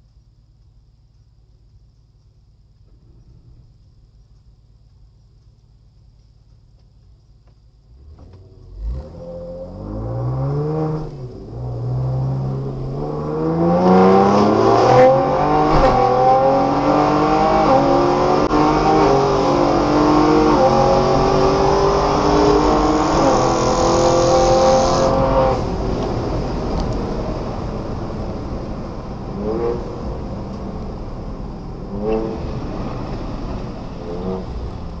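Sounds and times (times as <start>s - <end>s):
road noise: 0.0s - 35.0s
car engine accelerating: 2.0s - 5.6s, 7.0s - 35.0s.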